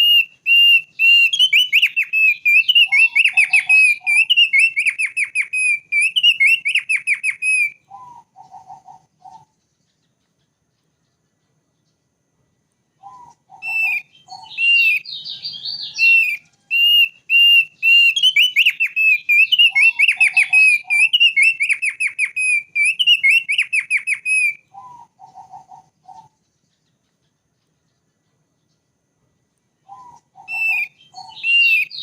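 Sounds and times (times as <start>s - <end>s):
bird whistled song: 0.0s - 12.0s, 12.9s - 28.8s, 29.8s - 32.0s
lower bird notes: 0.0s - 32.0s.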